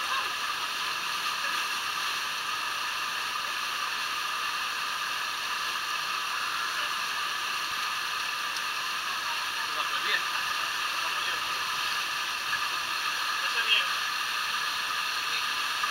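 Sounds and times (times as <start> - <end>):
small waterfall rushing: 0.0 - 15.9.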